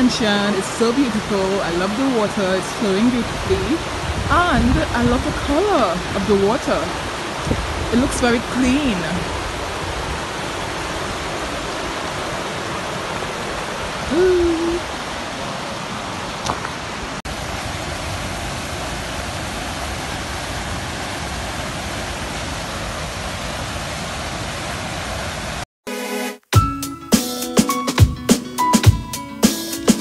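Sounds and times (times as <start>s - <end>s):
stream rushing over rocks: 0.0s - 25.6s.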